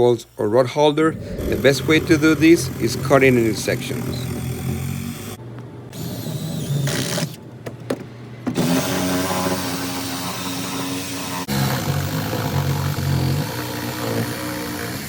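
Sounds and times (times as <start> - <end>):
power saw cutting: 1.1 - 15.0.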